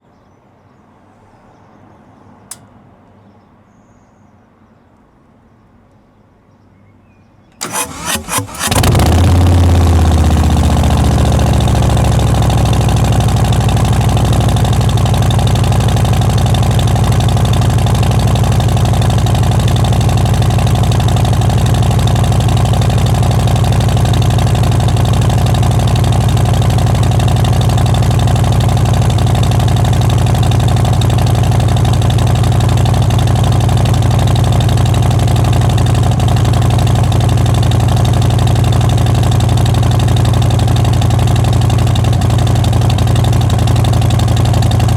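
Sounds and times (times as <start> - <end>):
motorcycle engine idling: 7.6 - 44.9.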